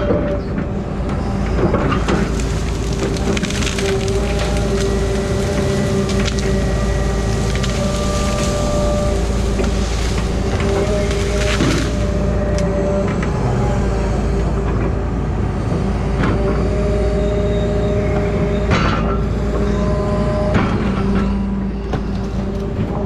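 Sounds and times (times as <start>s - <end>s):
heavy machine engine running: 0.0s - 23.0s.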